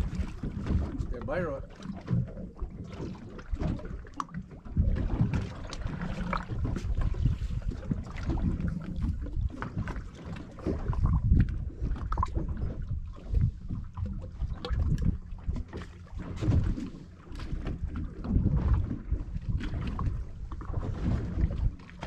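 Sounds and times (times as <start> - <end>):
wind buffeting microphone: 0.0 - 4.0, 4.6 - 22.0.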